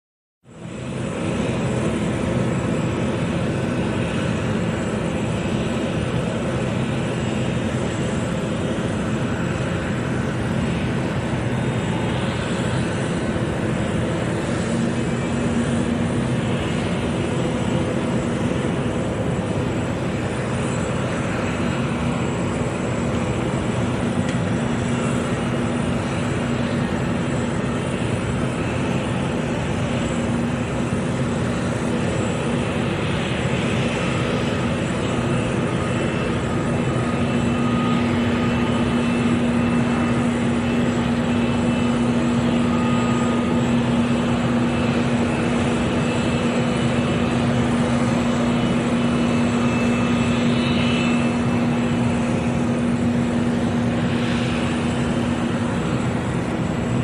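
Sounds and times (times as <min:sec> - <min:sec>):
faint high whines: 0:00.5 - 0:57.0
jet engines idling: 0:00.5 - 0:57.0.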